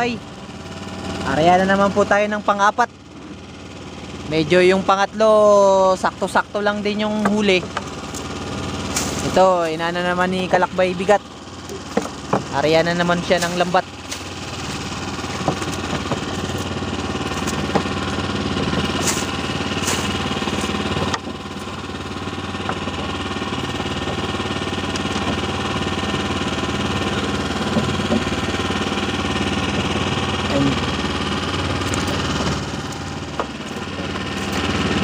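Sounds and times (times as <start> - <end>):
boat engine knocking: 0.0 - 35.0.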